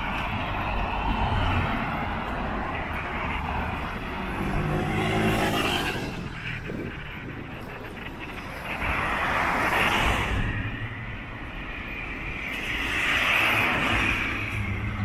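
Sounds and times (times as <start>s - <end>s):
cars passing: 0.0s - 15.0s
low traffic rumble: 0.0s - 15.0s.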